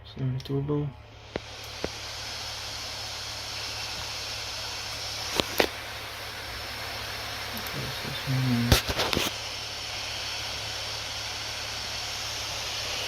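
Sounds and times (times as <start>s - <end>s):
laptop cooling fans whooshing: 0.6s - 13.0s.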